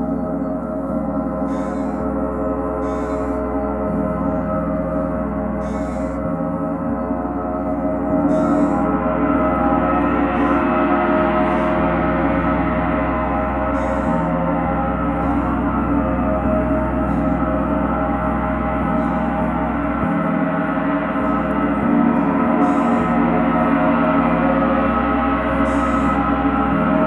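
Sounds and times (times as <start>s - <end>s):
gong ringing: 0.0s - 27.0s.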